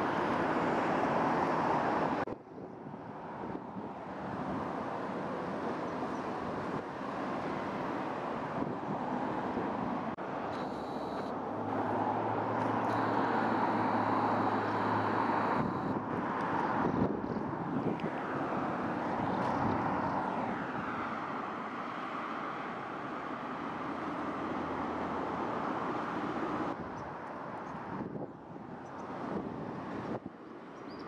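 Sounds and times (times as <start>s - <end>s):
passing traffic engine noise: 0.0s - 31.0s.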